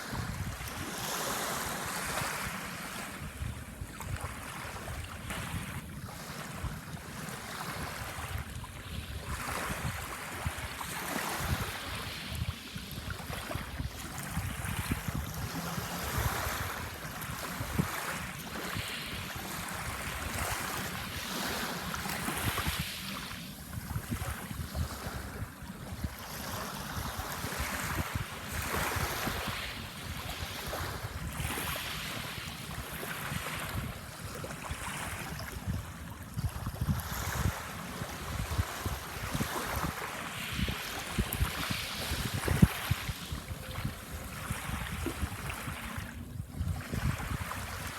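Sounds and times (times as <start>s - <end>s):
small waves washing onto sand: 0.0s - 47.9s
wind rumble on microphone: 0.0s - 47.9s.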